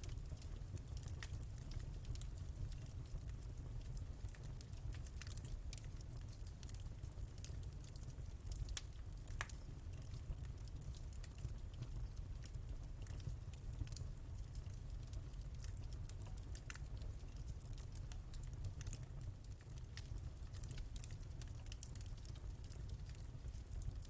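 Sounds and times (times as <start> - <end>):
low rumble of burning fire: 0.0 - 24.0
wood fire crackling: 0.0 - 24.0.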